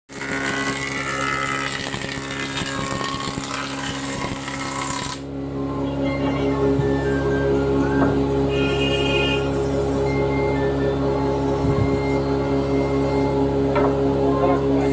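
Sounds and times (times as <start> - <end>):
woodworking machine hissing: 0.1 - 5.3, 6.4 - 14.9.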